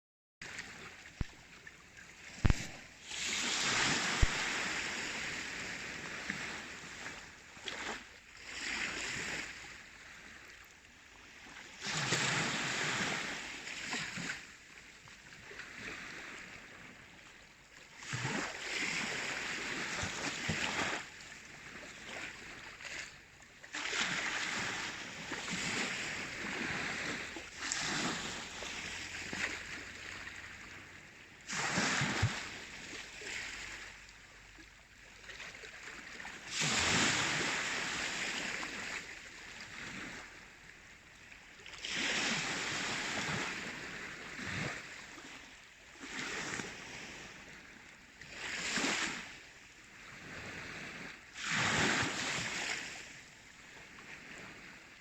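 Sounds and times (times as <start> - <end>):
waves washing in: 0.4 - 10.6, 11.2 - 14.8, 18.0 - 34.7, 35.3 - 41.0, 41.6 - 54.8.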